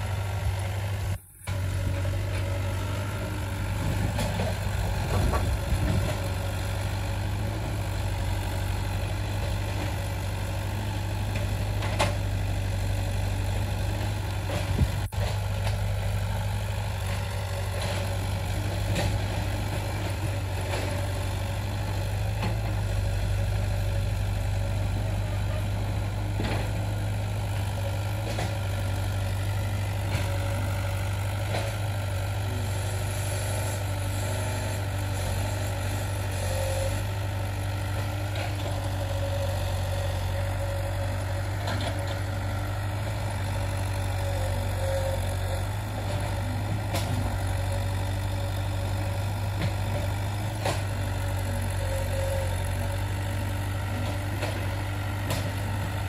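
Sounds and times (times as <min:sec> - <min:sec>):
excavator diesel engine humming: 0:00.0 - 0:56.0.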